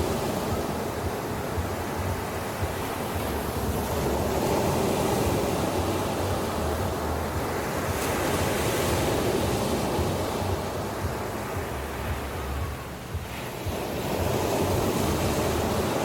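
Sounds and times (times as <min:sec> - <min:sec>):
sea waves washing onto beach: 0:00.0 - 0:16.0
wind buffeting microphone: 0:00.0 - 0:16.0.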